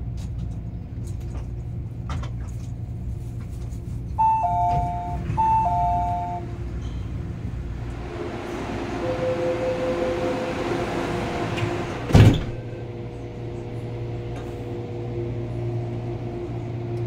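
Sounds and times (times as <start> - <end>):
train cabin rushing hum: 0.0 - 17.0.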